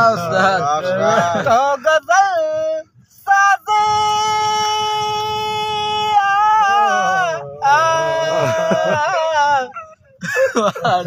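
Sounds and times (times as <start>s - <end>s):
man singing solo: 0.0s - 9.8s.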